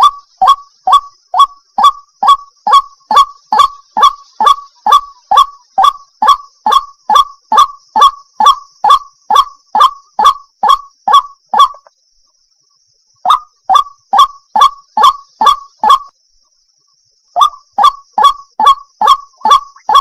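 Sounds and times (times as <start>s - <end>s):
water hen calling: 0.0s - 11.9s, 13.3s - 16.1s, 17.4s - 20.0s.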